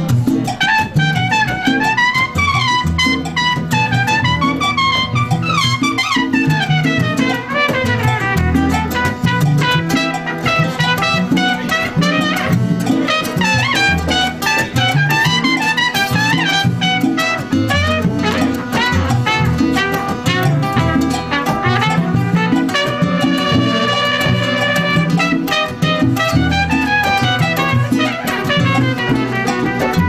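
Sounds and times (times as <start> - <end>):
congas: 0.0 - 30.0
latin band playing: 0.0 - 30.0
trumpet melody: 0.3 - 30.0.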